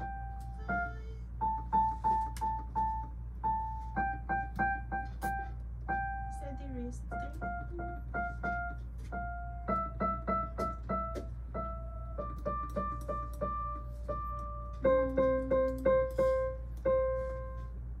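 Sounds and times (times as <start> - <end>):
digital piano melody: 0.0 - 18.0
steady low hum: 0.0 - 18.0.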